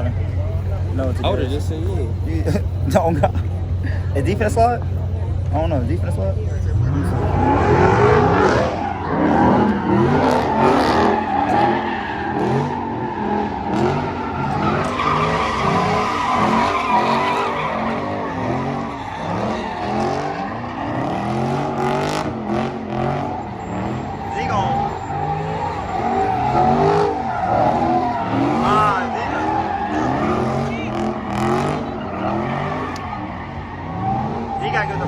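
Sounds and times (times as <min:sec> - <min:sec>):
car engine revving: 0:00.0 - 0:35.0
tire squeal: 0:00.0 - 0:35.0.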